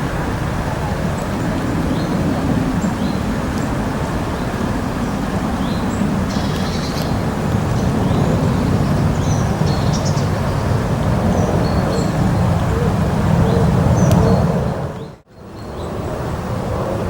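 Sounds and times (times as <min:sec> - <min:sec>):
small birds chirping: 0:00.8 - 0:16.0.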